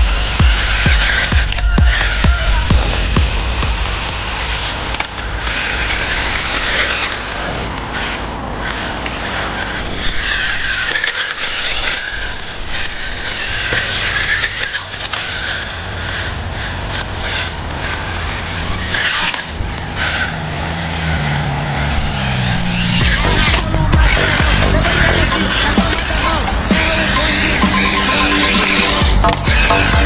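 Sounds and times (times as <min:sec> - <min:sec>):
rc car motor whine: 0:00.0 - 0:30.0
tyres skidding and scraping: 0:00.0 - 0:30.0.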